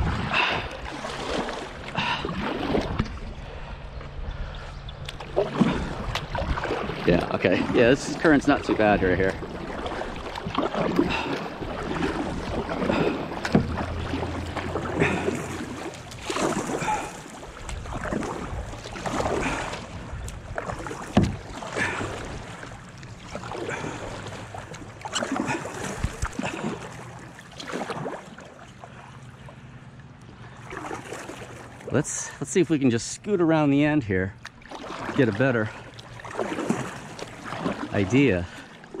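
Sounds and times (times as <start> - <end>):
kayak paddle strokes in water: 0.0 - 39.0
paddle dripping: 0.0 - 39.0
water moving along hull: 0.0 - 39.0.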